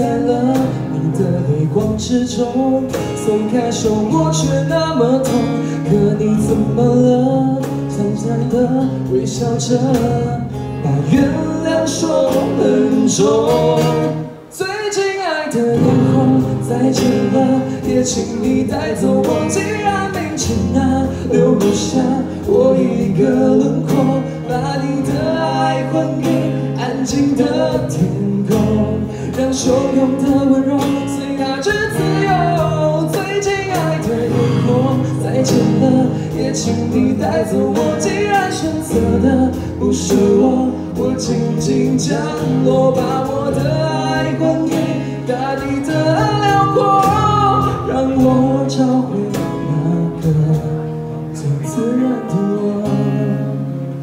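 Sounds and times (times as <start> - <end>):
bass guitar: 0.0 - 14.6, 15.6 - 54.0
people singing: 0.0 - 50.8
cajon beat: 0.0 - 53.3
strummed acoustic guitars: 0.0 - 54.0.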